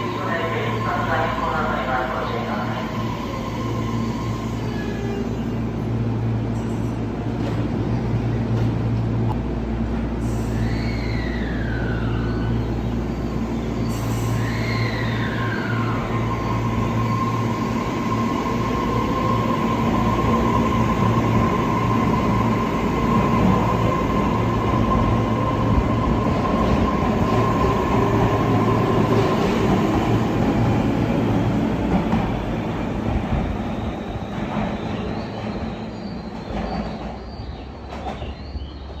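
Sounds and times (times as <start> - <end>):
electric train hum and whine: 0.0 - 39.0.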